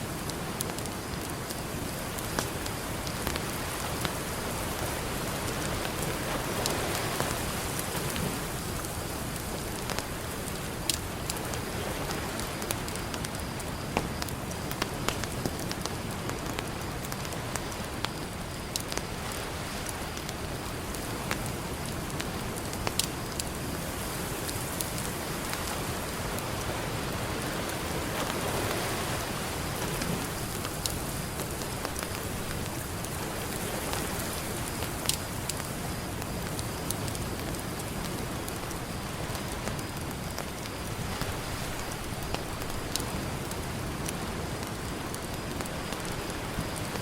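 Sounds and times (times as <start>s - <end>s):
campfire crackling and popping: 0.1s - 47.0s.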